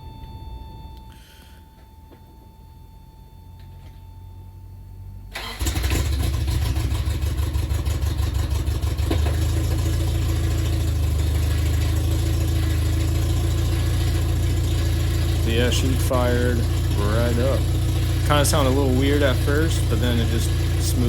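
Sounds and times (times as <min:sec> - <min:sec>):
car engine starting and idling: 0:00.0 - 0:21.0.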